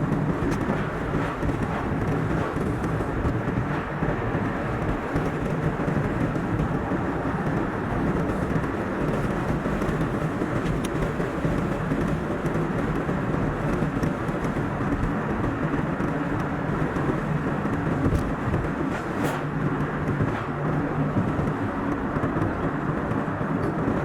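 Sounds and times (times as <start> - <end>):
car road noise roar: 0.0 - 24.0.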